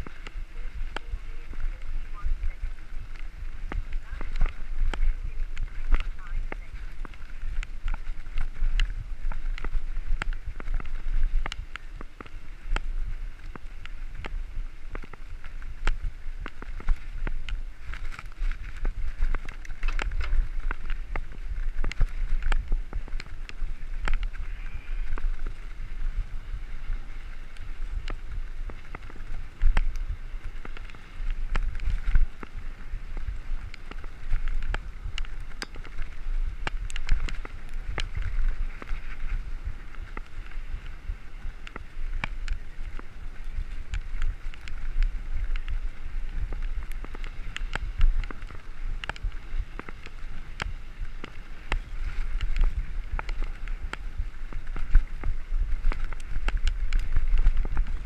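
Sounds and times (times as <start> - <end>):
bike tyre noise on gravel: 0.0 - 58.0
low wind rumble on microphone: 0.0 - 58.0.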